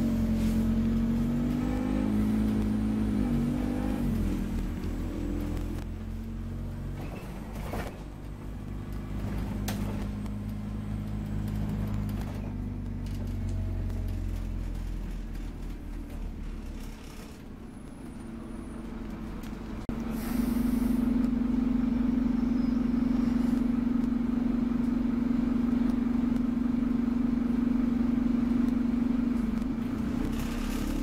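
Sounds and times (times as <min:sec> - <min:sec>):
bus diesel engine pulling away: 0:00.0 - 0:31.0.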